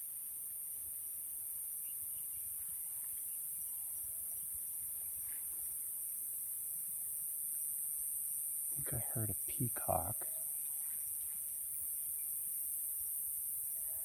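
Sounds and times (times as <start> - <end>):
night insects chorus: 0.0 - 14.0.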